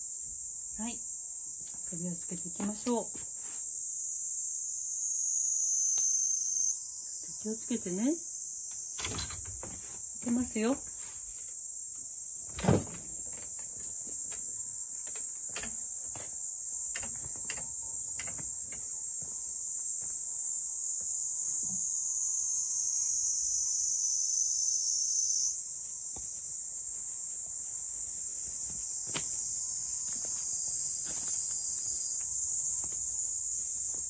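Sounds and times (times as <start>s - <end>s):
insect chorus buzzing: 0.0s - 34.0s.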